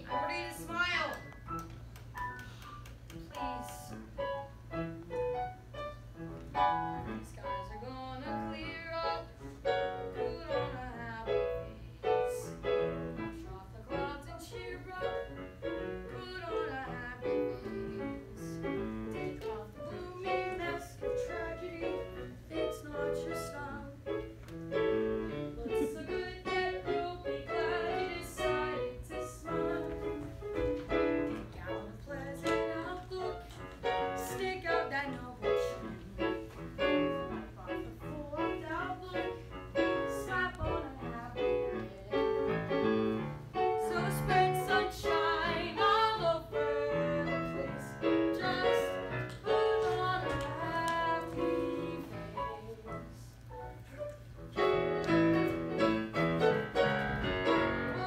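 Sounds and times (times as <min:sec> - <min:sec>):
piano accompaniment: 0:00.0 - 0:58.0.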